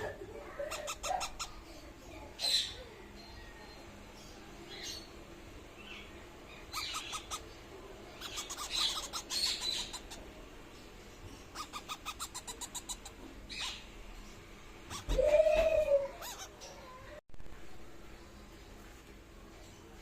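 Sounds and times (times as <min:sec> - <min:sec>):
parakeet chicks chirping: 0:00.0 - 0:17.2.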